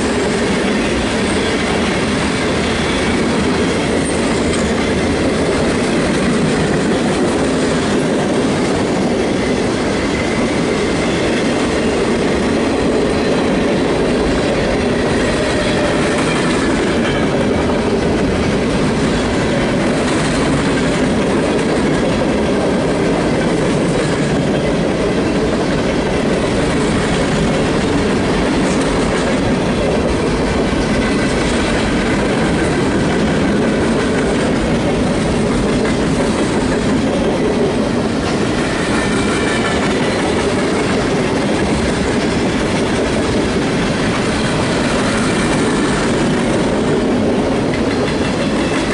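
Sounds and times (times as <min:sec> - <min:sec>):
freight train rolling past: 0:00.0 - 0:48.9.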